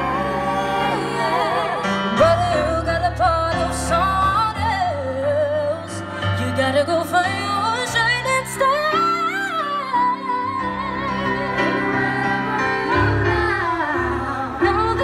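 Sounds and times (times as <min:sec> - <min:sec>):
keyboard accompaniment: 0:00.0 - 0:15.0
women singing: 0:00.0 - 0:15.0.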